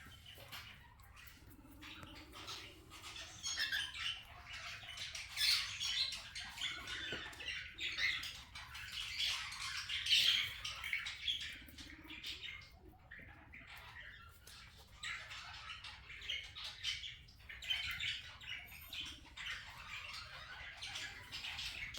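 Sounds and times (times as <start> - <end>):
parakeets chattering and squawking: 0.0 - 21.9.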